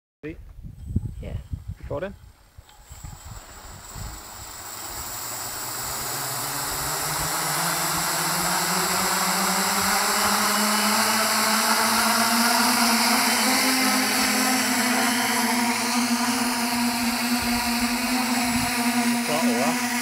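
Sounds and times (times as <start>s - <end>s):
drone motors humming: 0.9s - 20.0s.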